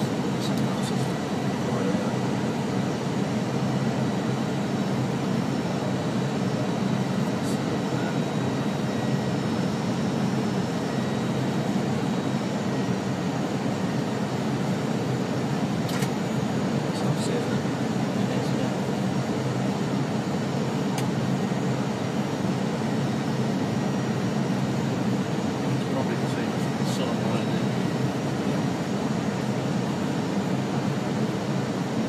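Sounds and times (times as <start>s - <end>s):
aircraft engine drone: 0.0s - 32.0s
faint whine: 0.0s - 32.0s.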